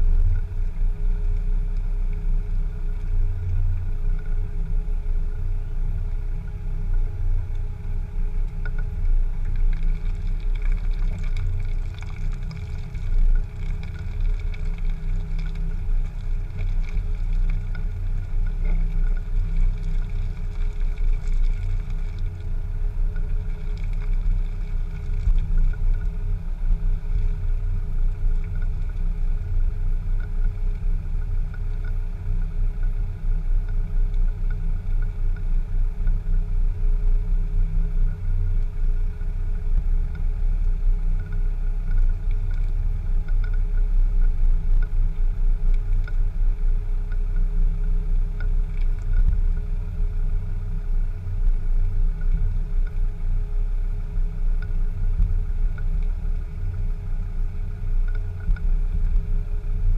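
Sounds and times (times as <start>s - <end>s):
low engine rumble: 0.0s - 59.9s.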